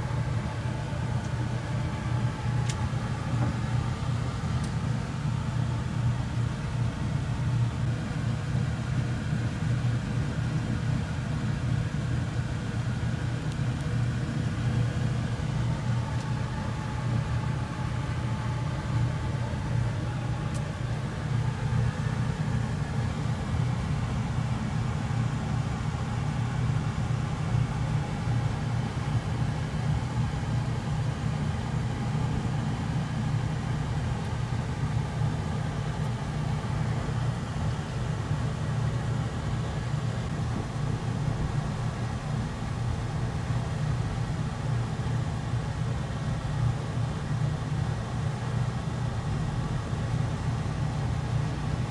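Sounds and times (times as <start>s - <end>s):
low machine rumble: 0.0s - 51.9s.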